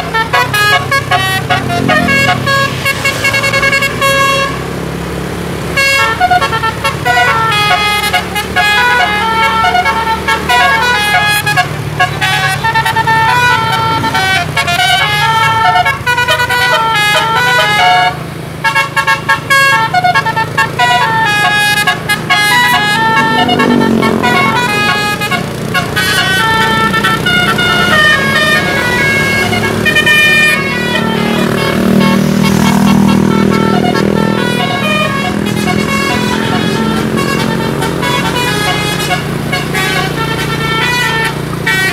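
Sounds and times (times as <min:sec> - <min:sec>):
musical air horn melody: 0:00.0 - 0:04.7, 0:05.8 - 0:41.9
low engine hum: 0:00.0 - 0:41.9.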